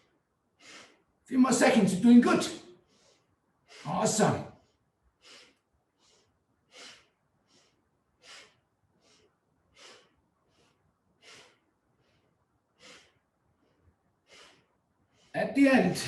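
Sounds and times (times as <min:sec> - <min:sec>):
rhythmic nasal breathing: 0:00.0 - 0:01.2, 0:02.8 - 0:15.5.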